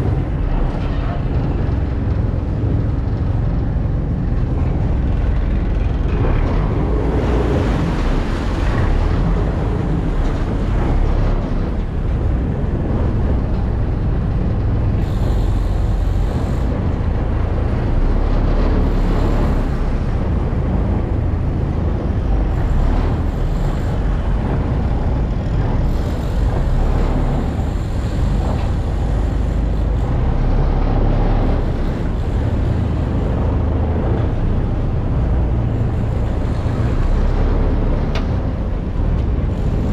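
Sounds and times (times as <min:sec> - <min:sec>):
high whine: 0:00.0 - 0:39.9
low engine rumble: 0:00.0 - 0:39.9.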